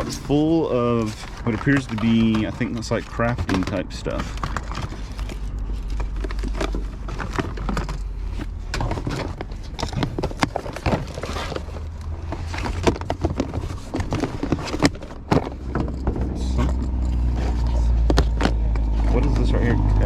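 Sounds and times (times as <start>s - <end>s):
rustling: 0.0s - 19.4s
small items and containers clattering: 0.0s - 19.6s.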